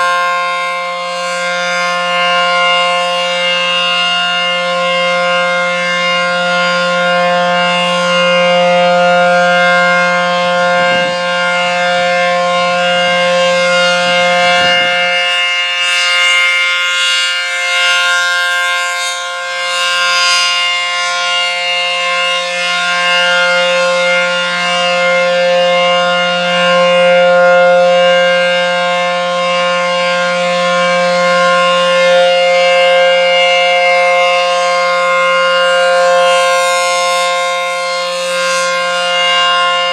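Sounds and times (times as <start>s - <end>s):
siren steady tone: 0.0s - 39.9s.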